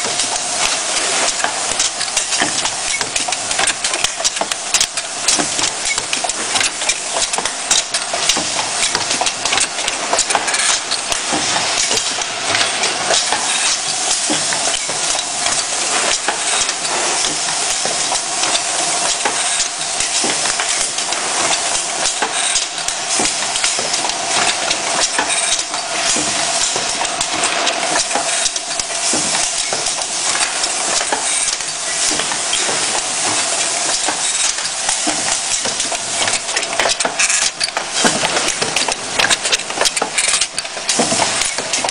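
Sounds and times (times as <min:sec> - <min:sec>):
machine hiss with clicks: 0:00.0 - 0:41.9.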